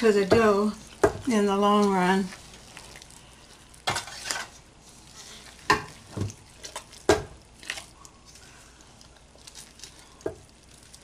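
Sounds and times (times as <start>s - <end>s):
dough squelching and slapping: 0.0s - 11.0s.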